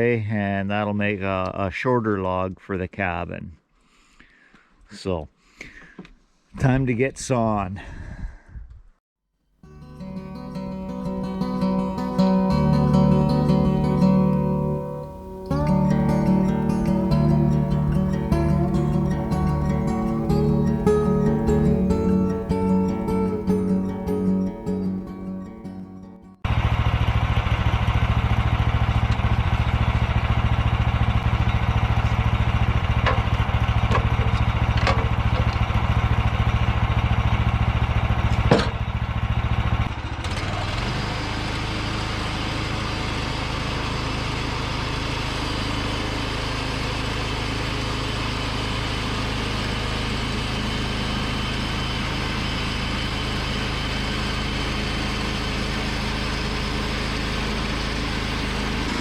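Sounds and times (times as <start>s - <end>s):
sawmill engine running: 9.7s - 38.2s, 39.2s - 59.0s.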